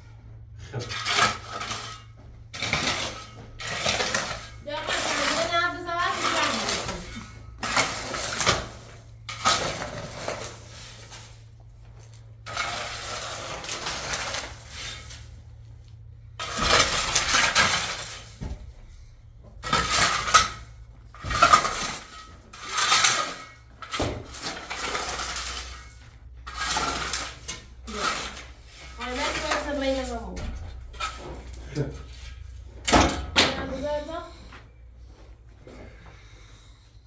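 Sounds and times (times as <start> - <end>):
metal scraping and clinking: 0.5 - 19.0, 19.6 - 34.4.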